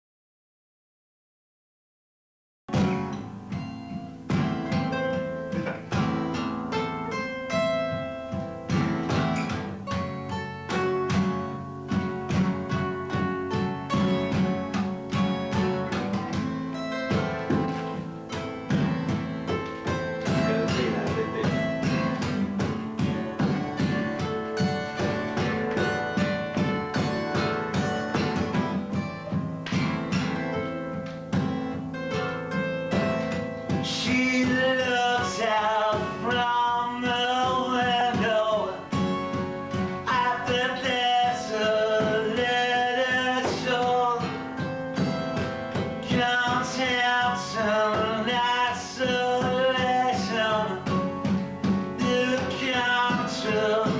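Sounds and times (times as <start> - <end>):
drums: 2.7 - 53.9
strummed guitar: 2.7 - 53.9.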